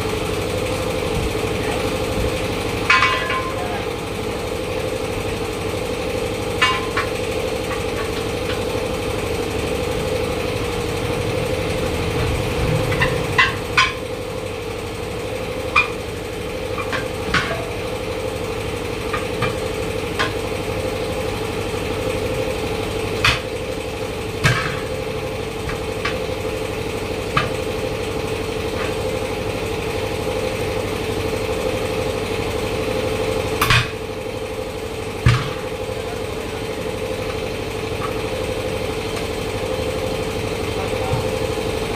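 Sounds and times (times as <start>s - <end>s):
engine-like drone: 0.0s - 41.9s.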